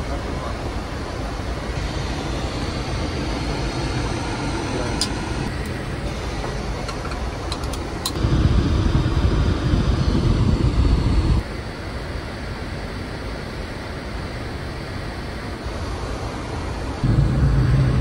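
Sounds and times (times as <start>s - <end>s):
airflow and engine noise: 0.0s - 18.0s.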